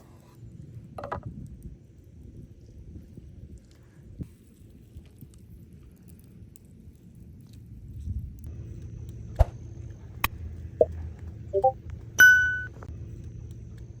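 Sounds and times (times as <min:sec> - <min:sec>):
low steady rumble: 0:00.1 - 0:14.0.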